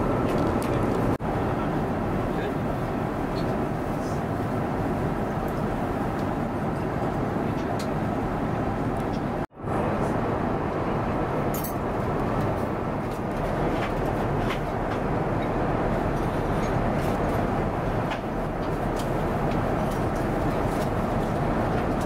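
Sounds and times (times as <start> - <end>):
airplane cabin engine roar: 0.0 - 22.0.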